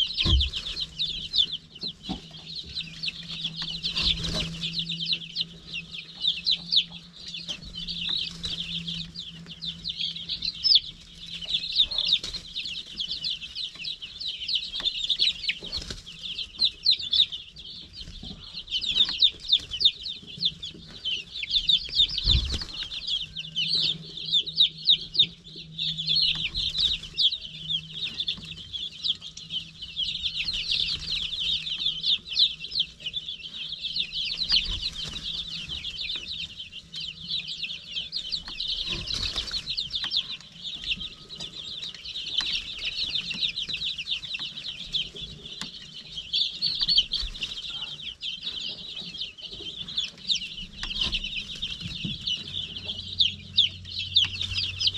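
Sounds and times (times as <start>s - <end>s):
baby chicks peeping: 0.0s - 54.9s
faint low hum: 0.0s - 54.9s.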